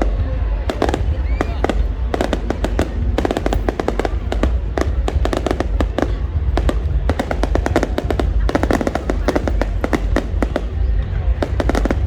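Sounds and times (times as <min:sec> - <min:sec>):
fireworks popping: 0:00.0 - 0:12.0.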